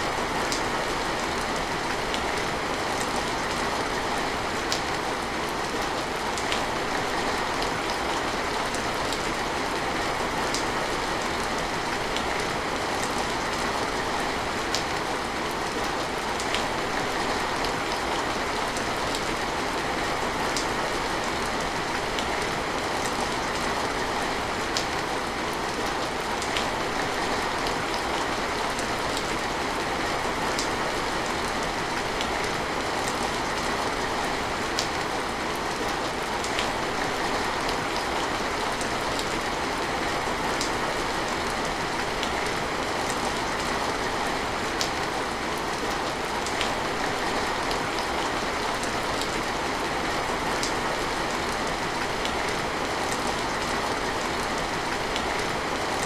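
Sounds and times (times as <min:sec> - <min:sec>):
rain drops ticking: 0:00.0 - 0:56.0
steady rain falling: 0:00.0 - 0:56.0.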